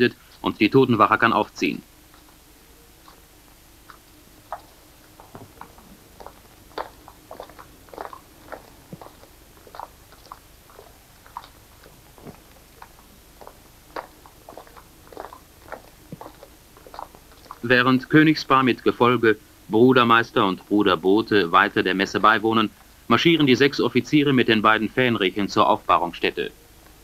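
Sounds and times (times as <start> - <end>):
low steady hiss: 0.0 - 27.0.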